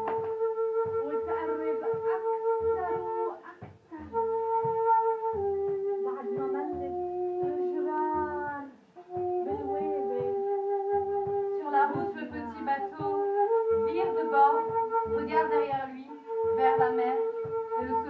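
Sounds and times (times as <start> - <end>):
low uneven pulse: 0.0 - 18.0.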